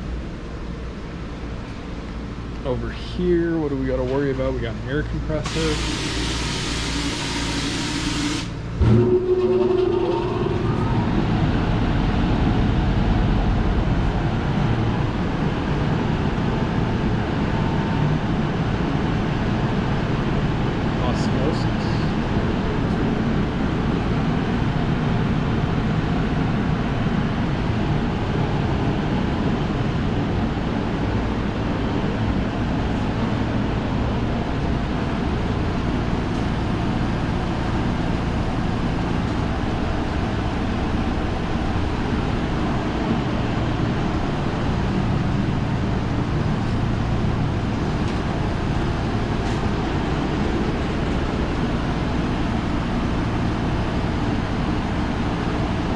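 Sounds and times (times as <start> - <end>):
loud machinery rumble: 2.2 - 55.9.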